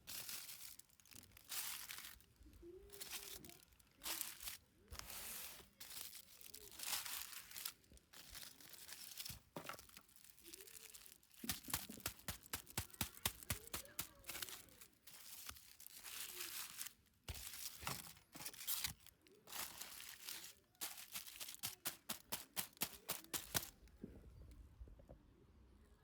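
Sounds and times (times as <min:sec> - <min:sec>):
packaging ripping and crinkling: 0:00.0 - 0:23.7.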